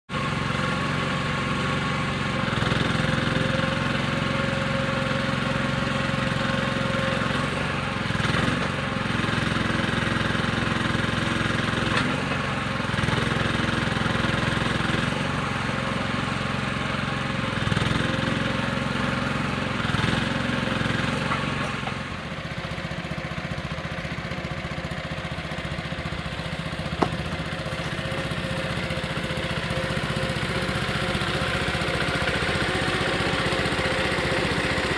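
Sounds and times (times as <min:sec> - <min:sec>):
skid steer engine running: 0:00.1 - 0:34.9.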